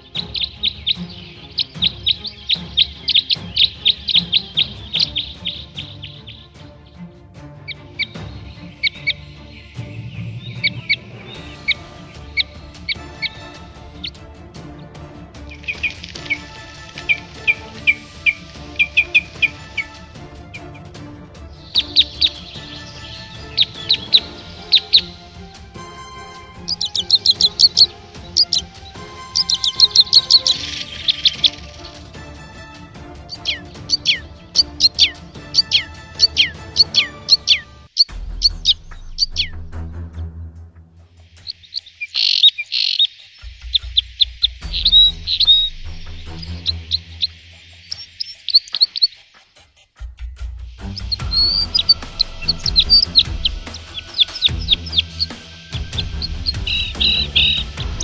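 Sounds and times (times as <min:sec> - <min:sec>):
background music: 0:00.0 - 0:58.0
birds chirping: 0:00.0 - 0:58.0.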